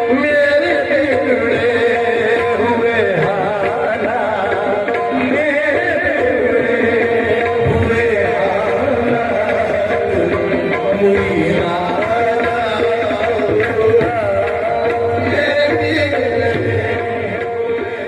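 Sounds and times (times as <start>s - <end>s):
tabla: 0.0s - 18.0s.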